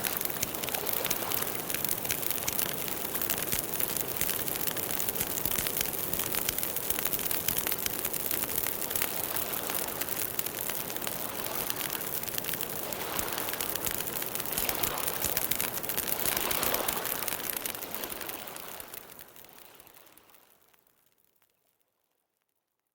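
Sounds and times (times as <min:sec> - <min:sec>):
hiss of burning wood: 0:00.0 - 0:19.6
campfire crackling and popping: 0:00.0 - 0:21.6.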